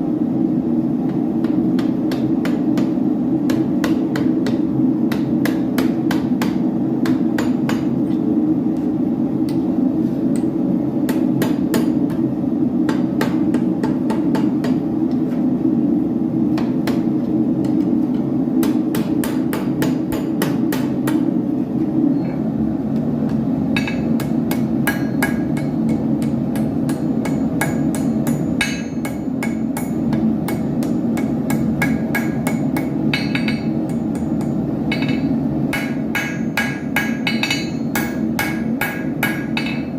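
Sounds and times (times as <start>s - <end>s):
hammer striking hot iron on anvil: 1.0s - 8.2s, 10.4s - 14.9s, 16.5s - 21.3s, 23.3s - 39.9s.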